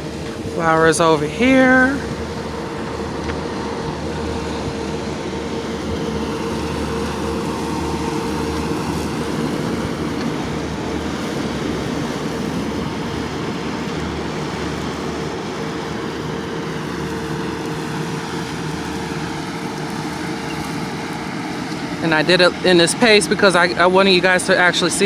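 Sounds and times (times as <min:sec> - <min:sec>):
constant engine hum: 0:00.0 - 0:25.0
road traffic: 0:00.0 - 0:25.0.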